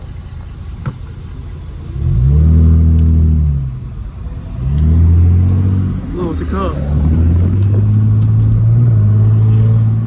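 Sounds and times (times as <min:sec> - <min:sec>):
car exhaust rumbling and revving: 0:00.0 - 0:10.0.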